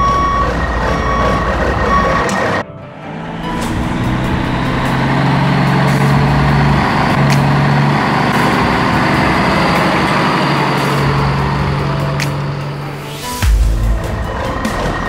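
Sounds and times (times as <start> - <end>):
heavy truck engine droning: 0.0 - 15.0.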